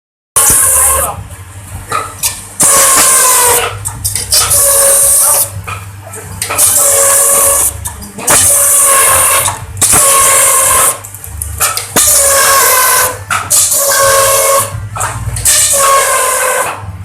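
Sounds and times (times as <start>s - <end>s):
machine cutting bamboo rasp: 0.4s - 1.2s, 2.0s - 5.8s, 6.4s - 16.8s
steady machine whine: 0.4s - 17.0s.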